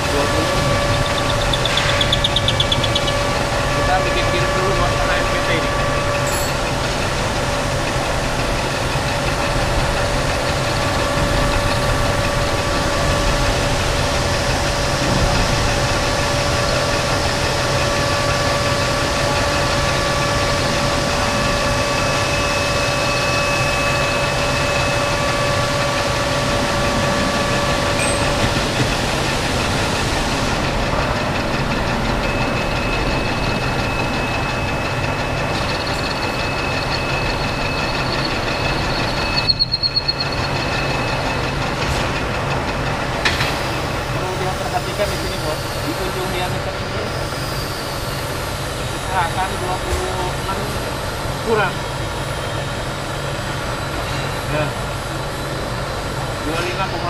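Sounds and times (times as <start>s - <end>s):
metal lathe running: 0.0s - 57.0s.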